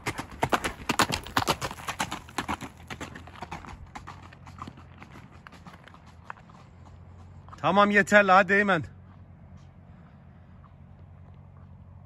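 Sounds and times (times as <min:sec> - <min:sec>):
horse hooves on gravel: 0:00.0 - 0:12.0.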